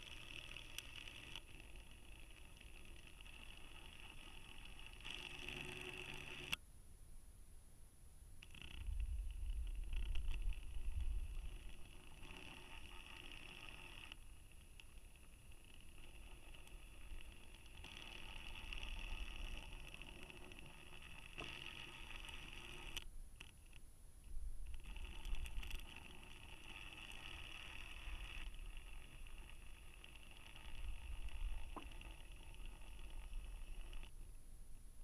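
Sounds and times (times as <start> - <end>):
small motor whirring: 0.0 - 6.6, 8.4 - 23.8, 24.6 - 34.4.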